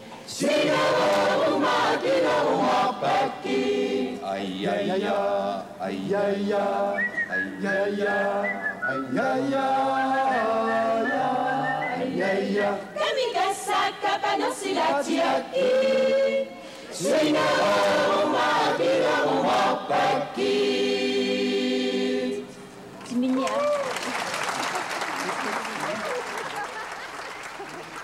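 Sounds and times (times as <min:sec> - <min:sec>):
mixed choir singing a cappella: 0:00.0 - 0:22.6.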